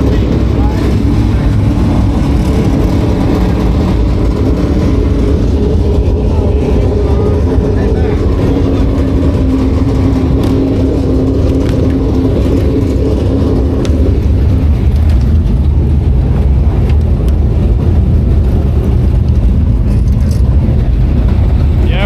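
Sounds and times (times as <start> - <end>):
droning tone: 0.0 - 22.0
engine rumble: 0.0 - 22.0.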